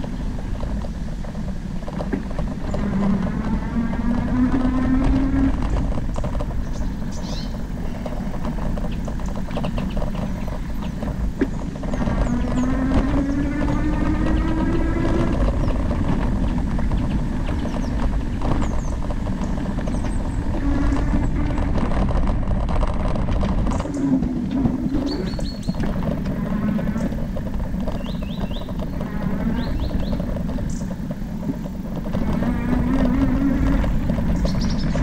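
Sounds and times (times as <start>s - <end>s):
birds chirping: 0.0s - 35.0s
electric motor whine: 0.0s - 35.0s
tyres rumbling on dirt: 0.0s - 35.0s
wind on microphone: 0.0s - 35.0s.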